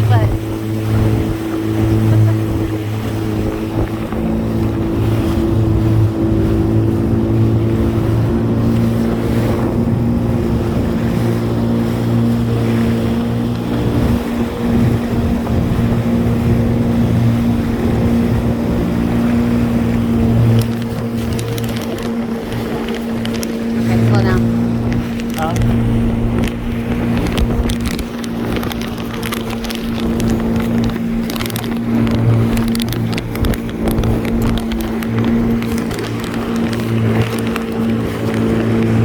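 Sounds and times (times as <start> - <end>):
jet ski engine running: 0.0 - 39.0
wind noise on microphone: 0.0 - 39.0.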